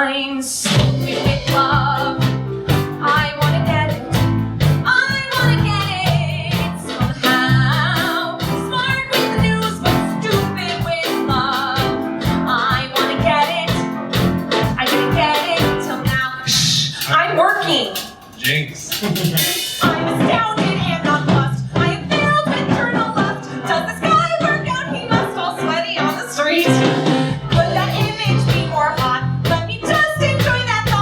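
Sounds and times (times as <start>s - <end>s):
woman singing with vibrato: 0.0s - 13.9s, 14.8s - 18.1s, 19.8s - 31.0s
live band playing: 0.5s - 31.0s.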